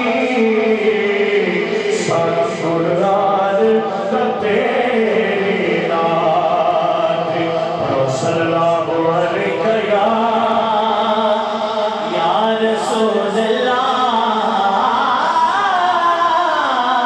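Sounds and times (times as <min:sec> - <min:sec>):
man singing into microphone: 0:00.0 - 0:17.0.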